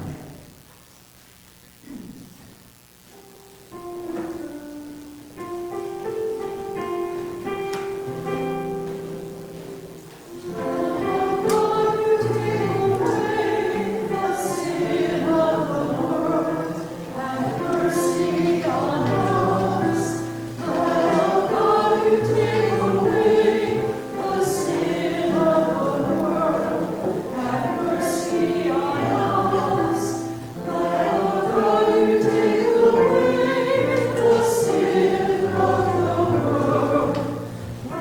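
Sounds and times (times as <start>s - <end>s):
piano chords: 3.2s - 38.0s
congregation singing a hymn: 3.8s - 38.0s.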